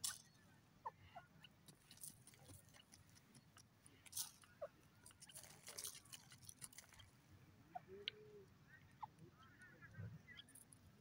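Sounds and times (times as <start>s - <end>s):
bird pecking at stony soil: 0.0s - 8.2s, 8.8s - 11.0s.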